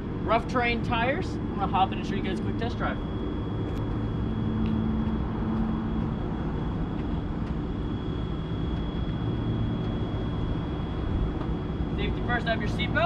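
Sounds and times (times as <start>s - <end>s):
thin high whine: 0.0s - 13.0s.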